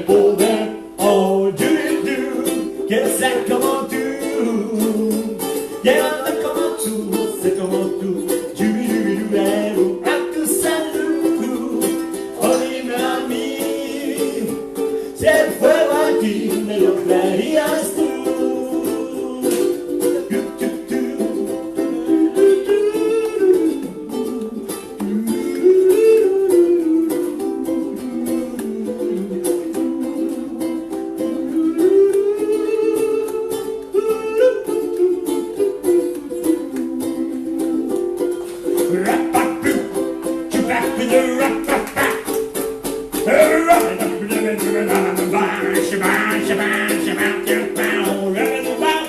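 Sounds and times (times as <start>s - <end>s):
ukulele strumming: 0.0s - 49.0s.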